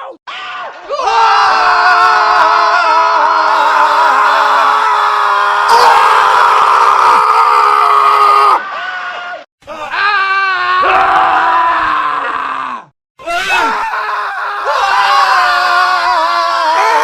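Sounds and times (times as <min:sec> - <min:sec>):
men screaming: 0:00.3 - 0:17.0.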